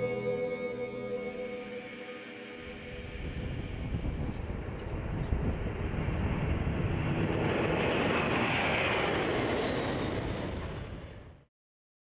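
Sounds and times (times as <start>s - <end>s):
jet engine roar with whine: 1.7s - 11.5s.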